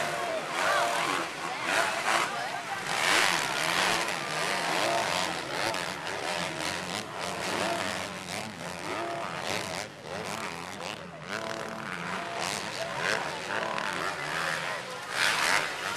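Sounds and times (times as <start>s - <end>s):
dirt bike engines revving: 0.0s - 15.9s.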